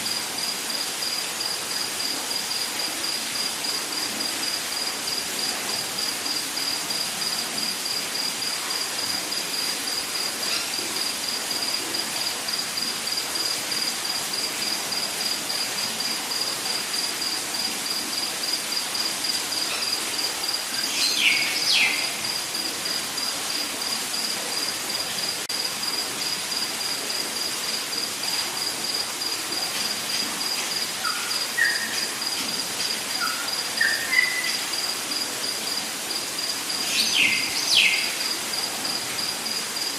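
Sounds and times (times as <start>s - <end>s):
dense hiss of insects: 0.0s - 39.9s.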